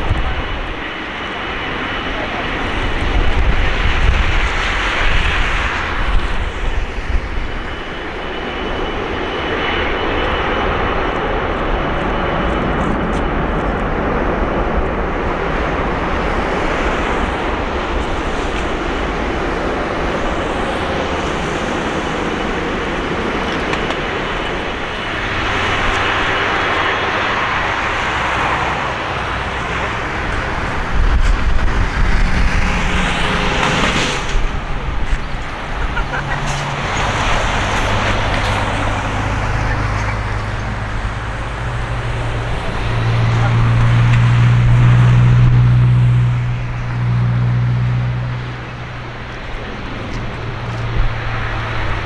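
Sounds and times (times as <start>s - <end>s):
jet engine rumble and hiss: 0.0s - 52.0s
wind buffeting microphone: 0.0s - 52.0s.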